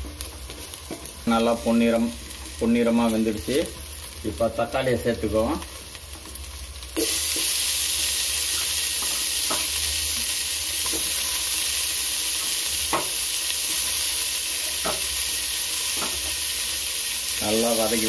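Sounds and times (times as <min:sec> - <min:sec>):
tomatoes sizzling in oil: 0:00.0 - 0:18.0.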